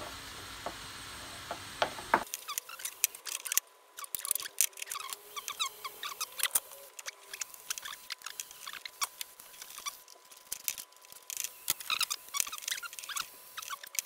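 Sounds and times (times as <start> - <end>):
small clicks rattles and squeaks: 2.2 - 14.0.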